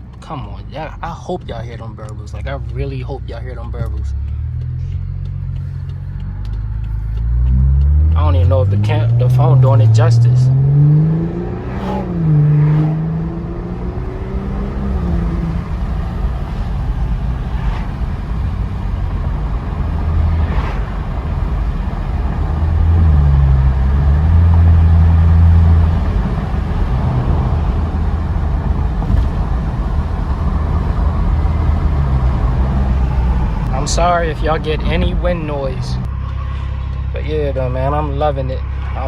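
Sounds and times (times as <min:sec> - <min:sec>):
car exhaust drone: 0:00.0 - 0:39.0.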